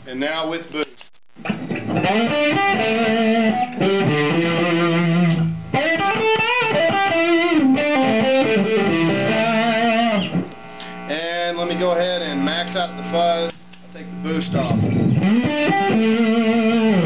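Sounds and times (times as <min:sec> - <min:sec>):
fuzzy electric guitar lead: 0:01.4 - 0:17.0.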